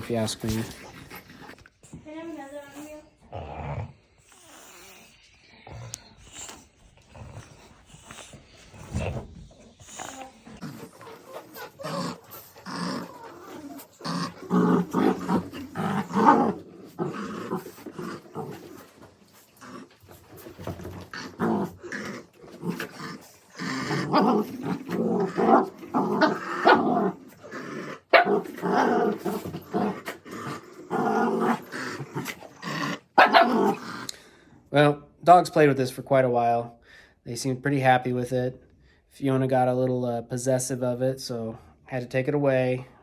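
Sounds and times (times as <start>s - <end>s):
dogs play growling: 0.0s - 34.5s.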